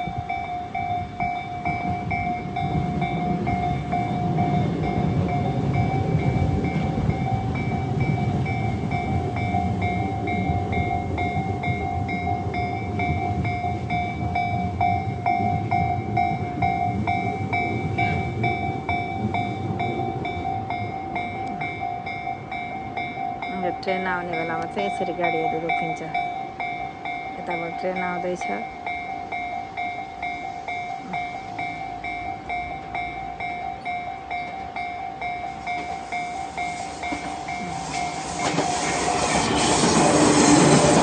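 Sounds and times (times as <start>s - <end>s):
railway crossing bell ringing: 0.0s - 41.0s
train rumbling on rails: 0.0s - 41.0s.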